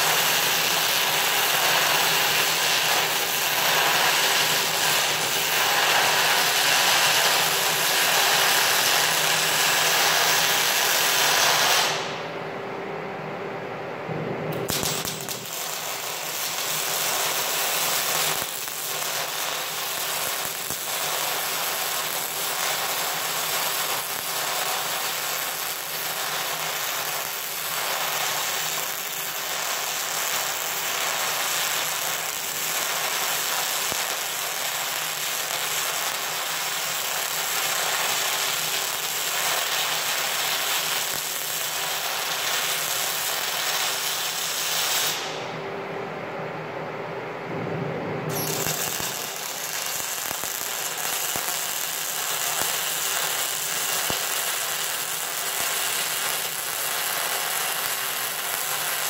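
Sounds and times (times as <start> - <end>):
welding arc crackling: 0.0 - 12.3, 14.5 - 45.5, 48.3 - 59.0.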